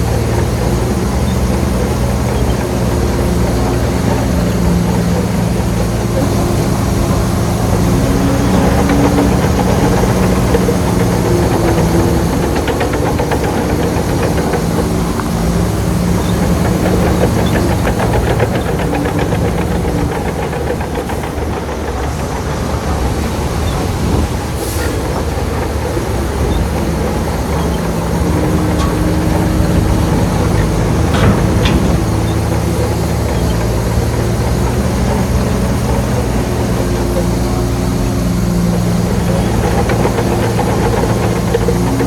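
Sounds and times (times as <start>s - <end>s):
diesel engine under load: 0.0s - 42.0s
rhythmic metallic clatter: 0.0s - 42.0s.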